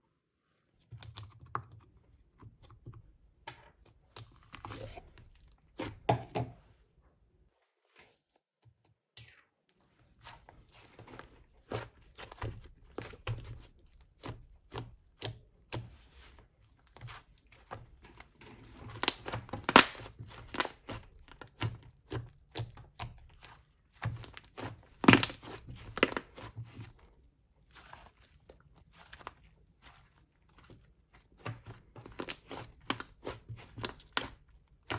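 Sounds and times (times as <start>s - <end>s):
hands squishing slime: 0.8s - 6.2s, 9.9s - 34.9s.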